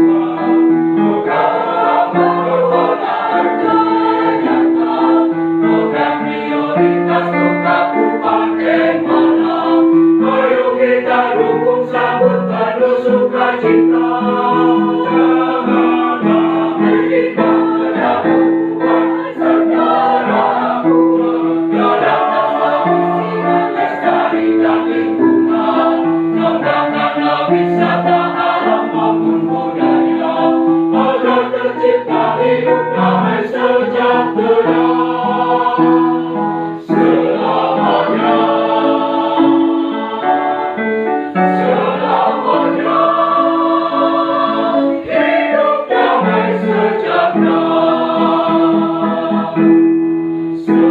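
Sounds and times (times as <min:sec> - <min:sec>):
choir singing: 0:00.0 - 0:50.9.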